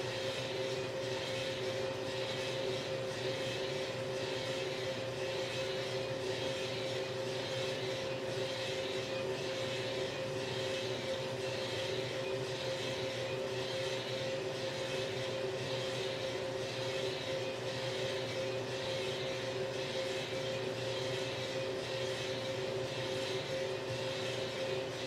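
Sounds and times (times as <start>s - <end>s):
motor and fan hum: 0.0s - 25.0s.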